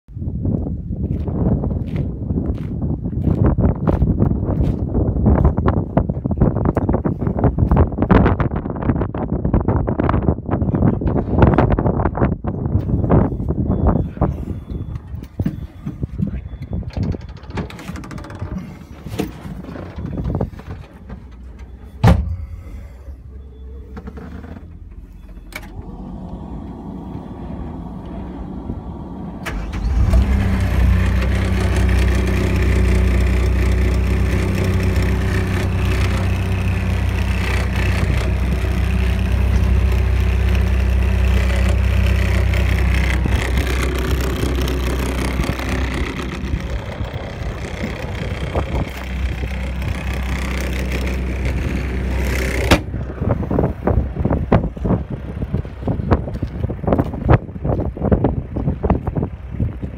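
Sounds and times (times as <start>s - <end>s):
diesel engine running: 11.9s - 59.9s.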